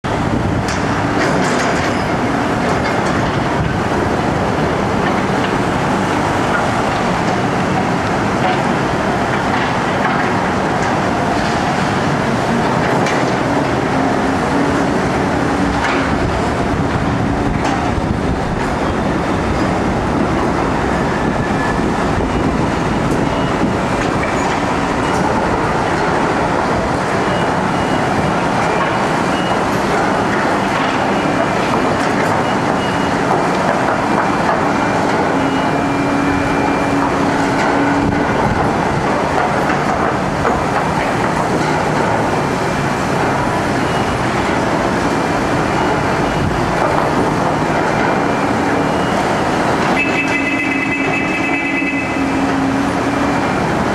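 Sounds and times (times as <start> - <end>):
heavy construction machinery running: 0.0 - 53.9.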